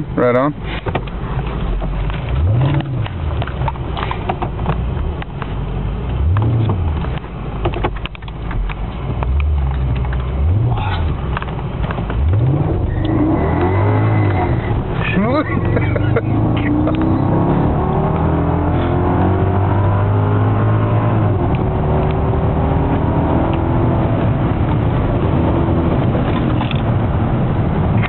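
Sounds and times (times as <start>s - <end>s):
road and wind noise: 0.0s - 28.0s
car engine revving: 0.7s - 28.0s.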